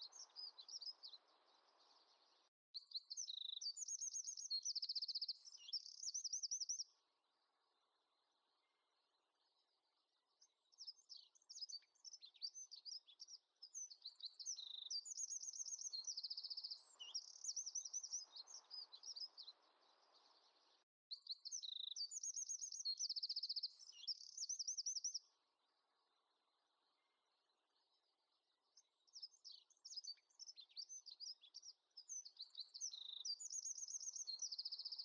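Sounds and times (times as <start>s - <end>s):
songbird chirping and trilling: 0.0s - 35.0s.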